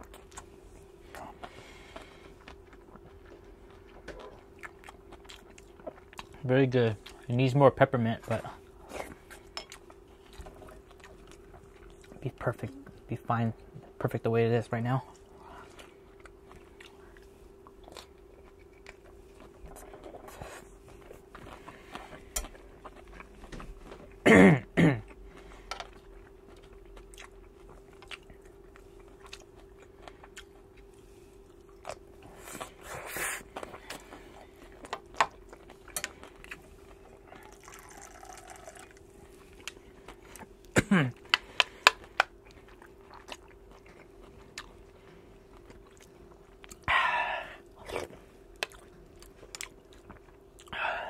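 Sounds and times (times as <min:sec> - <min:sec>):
man chewing food: 0:00.0 - 0:14.0, 0:14.9 - 0:51.0
faint steady hum: 0:00.0 - 0:51.0.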